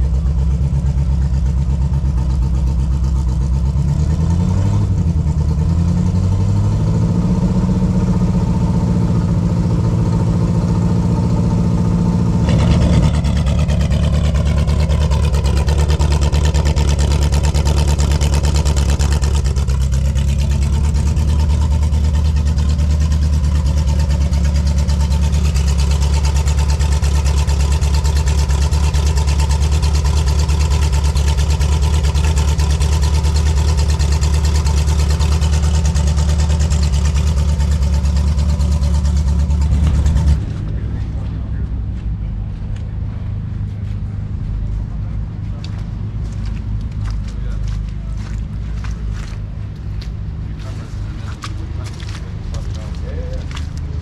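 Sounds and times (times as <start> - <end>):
car engine pulling away: 0.0 - 54.0.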